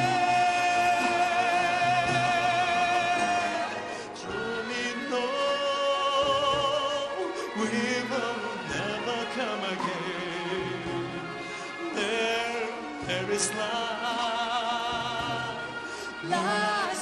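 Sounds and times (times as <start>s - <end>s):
folk instrument orchestra playing: 0.0s - 17.0s.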